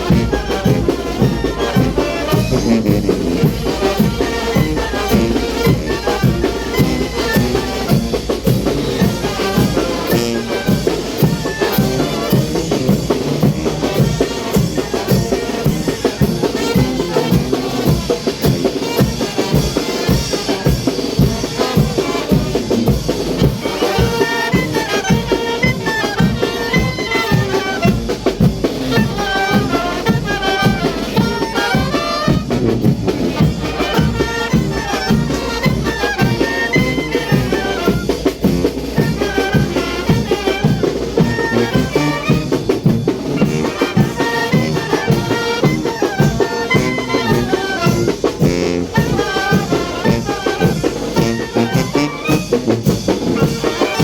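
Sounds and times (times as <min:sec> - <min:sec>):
brass melody: 0:00.0 - 0:54.0
driving drum beat: 0:00.0 - 0:54.0.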